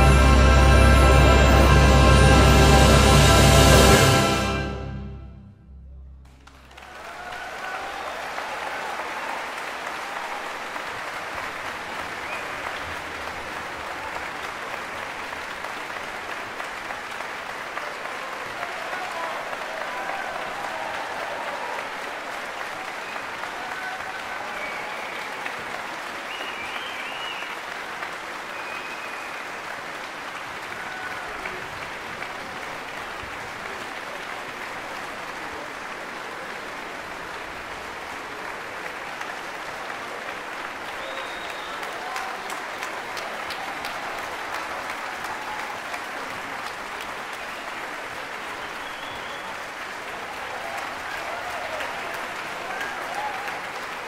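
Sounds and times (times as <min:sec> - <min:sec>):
audience applauding: 0:00.0 - 0:05.1, 0:06.2 - 0:54.0.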